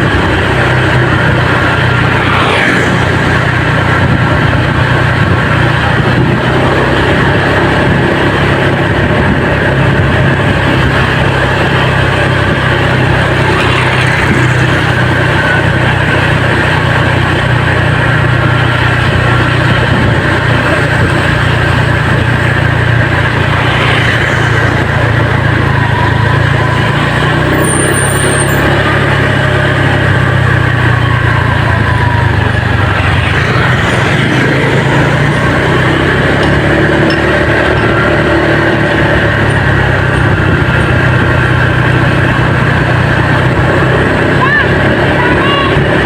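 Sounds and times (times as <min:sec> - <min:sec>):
vehicle engine droning: 0:00.0 - 0:46.0.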